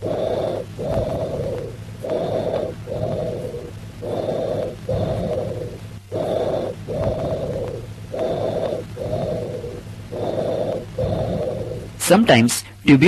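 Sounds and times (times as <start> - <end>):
bronchial breathing: 0.0 - 12.8.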